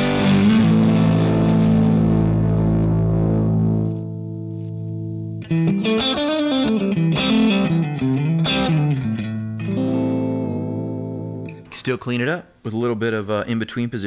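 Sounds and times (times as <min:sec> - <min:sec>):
driven electric guitar: 0:00.0 - 0:11.7.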